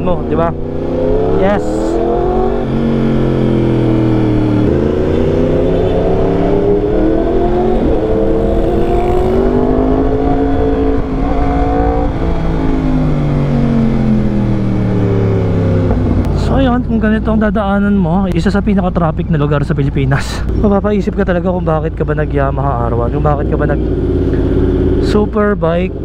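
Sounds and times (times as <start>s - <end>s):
motorcycle engine accelerating: 0.0s - 19.1s, 20.4s - 26.0s.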